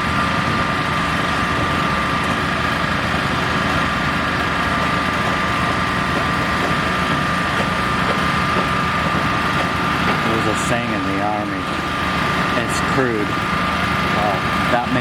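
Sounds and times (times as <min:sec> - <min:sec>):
construction machinery engine drone: 0:00.0 - 0:15.0
high whine: 0:00.0 - 0:15.0.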